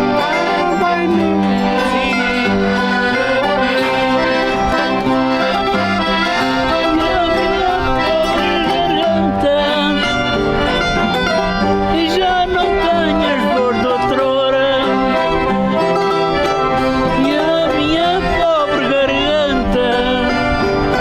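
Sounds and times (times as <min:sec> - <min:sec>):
accordion: 0:00.0 - 0:21.0
plucked string instruments: 0:00.0 - 0:21.0.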